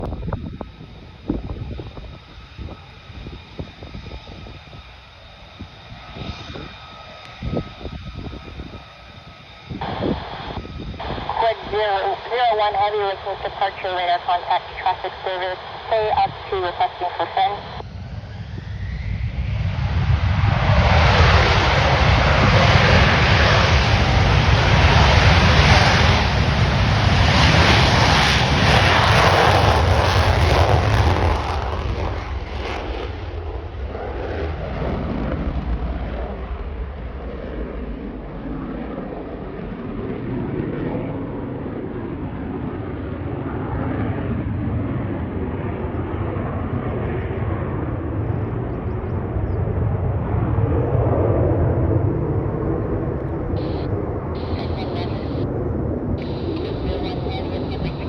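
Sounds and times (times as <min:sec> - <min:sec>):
fighter jet taking off: 0:00.0 - 0:58.0.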